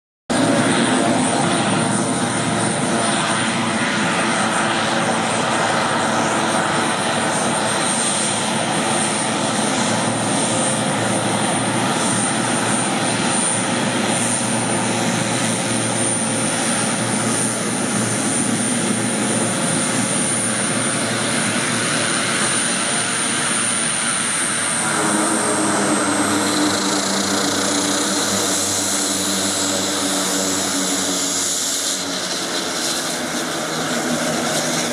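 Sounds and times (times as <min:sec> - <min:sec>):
turboprop engine running: 0:00.3 - 0:34.9.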